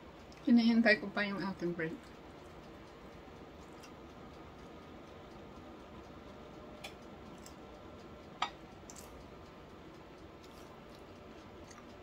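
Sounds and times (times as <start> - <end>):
faint room hum: 0.0 - 12.0
thin steady tones: 0.0 - 12.0.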